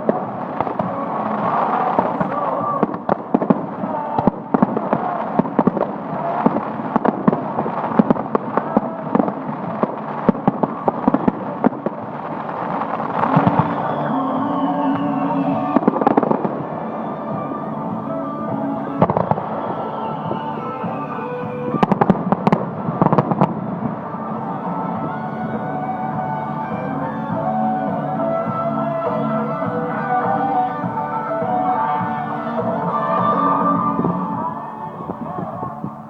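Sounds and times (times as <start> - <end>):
falling firework whistle: 0.0 - 36.0
fireworks bangs and crackles: 0.0 - 36.0.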